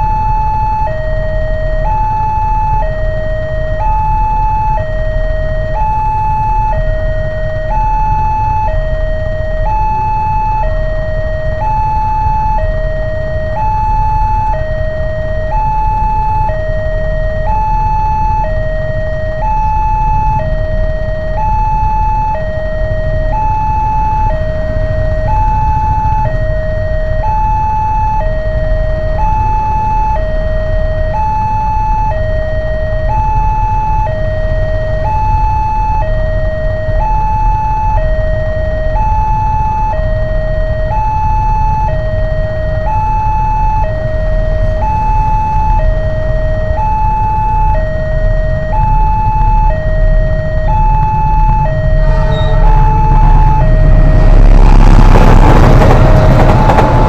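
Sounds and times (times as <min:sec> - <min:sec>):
level crossing alarm two-tone: 0:00.0 - 0:57.0.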